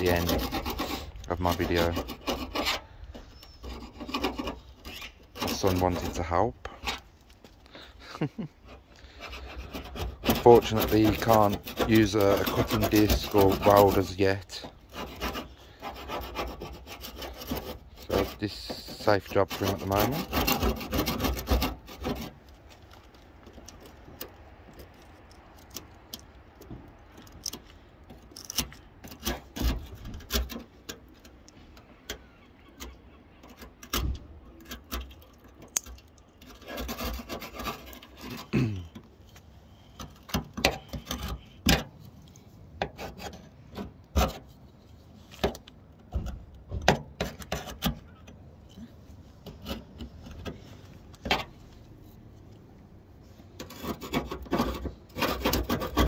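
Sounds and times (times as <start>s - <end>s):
chisel scraping metal: 0.0s - 7.1s, 8.6s - 22.6s, 23.7s - 46.3s, 46.9s - 52.6s, 53.2s - 56.0s.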